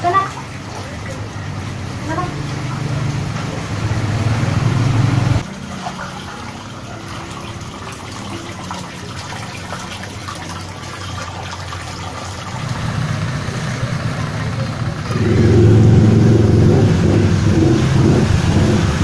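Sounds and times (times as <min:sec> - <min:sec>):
floodwater sloshing and splashing: 0:00.0 - 0:19.0
low water rush: 0:00.0 - 0:19.0.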